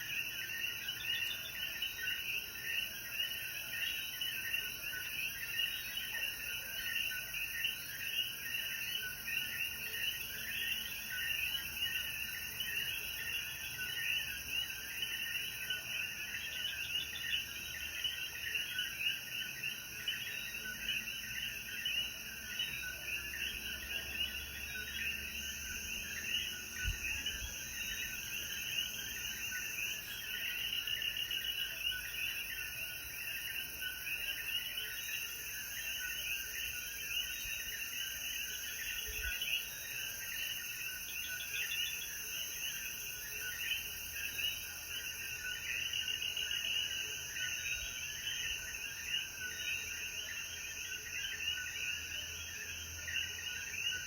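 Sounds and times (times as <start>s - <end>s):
frogs chirping: 0.0s - 54.0s.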